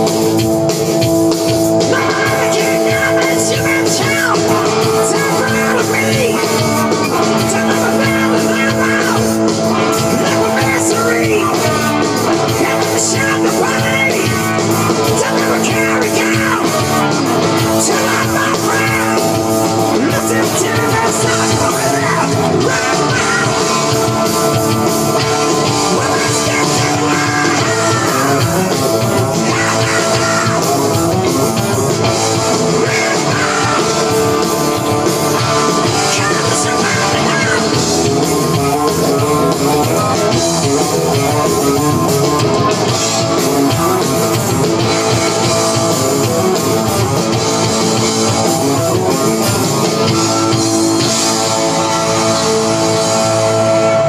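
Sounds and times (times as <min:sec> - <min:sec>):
electric guitar: 0:00.0 - 0:54.0
rock band playing: 0:00.0 - 0:54.0.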